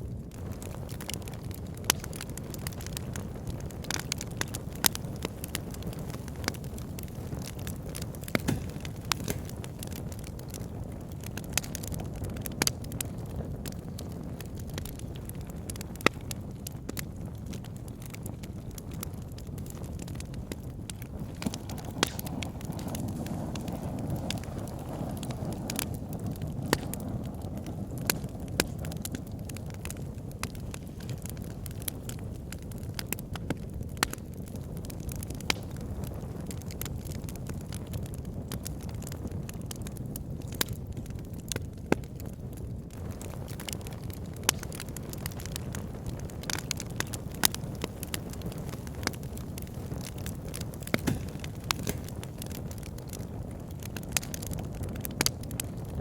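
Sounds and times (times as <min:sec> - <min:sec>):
logs crackling and popping: 0:00.0 - 0:56.0
wood fire rumbling: 0:00.0 - 0:56.0.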